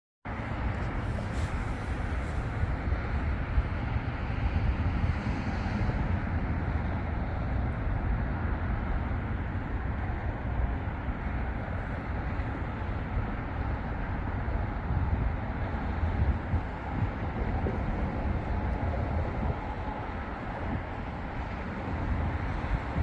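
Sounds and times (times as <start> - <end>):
wind buffeting microphone: 0.3 - 23.0.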